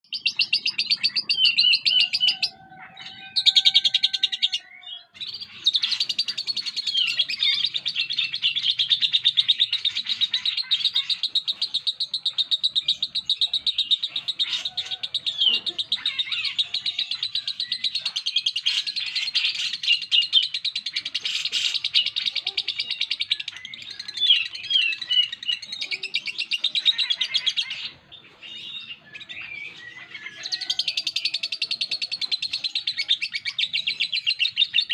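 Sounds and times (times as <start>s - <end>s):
lovebird chattering: 0.1s - 34.9s.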